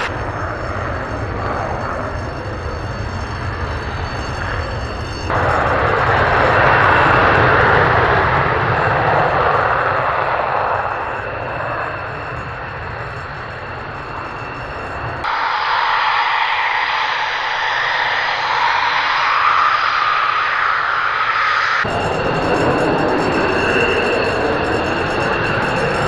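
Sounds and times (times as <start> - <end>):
jet engines running: 0.0 - 26.0
jet passing close: 0.0 - 26.0.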